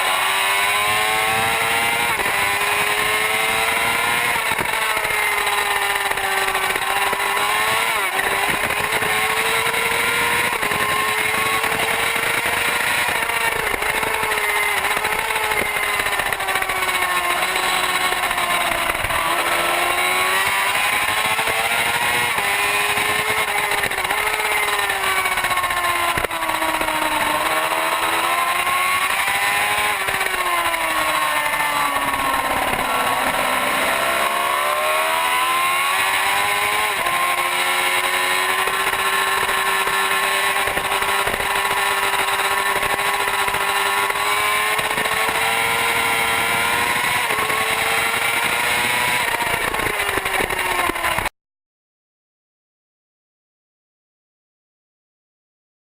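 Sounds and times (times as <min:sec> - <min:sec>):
motorcycle engine at high revs: 0:00.0 - 0:51.3.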